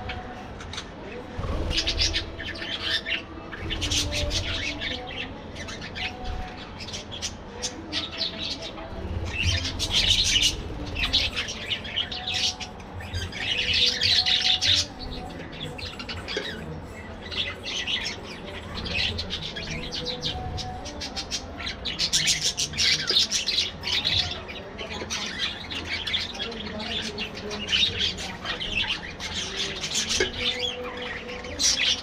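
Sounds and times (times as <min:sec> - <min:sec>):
budgerigars chattering and squawking: 0:00.6 - 0:32.0.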